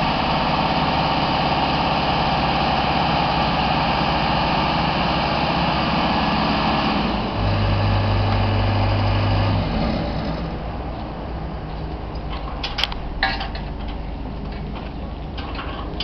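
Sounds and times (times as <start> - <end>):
boom lift engine running: 0.0 - 16.0.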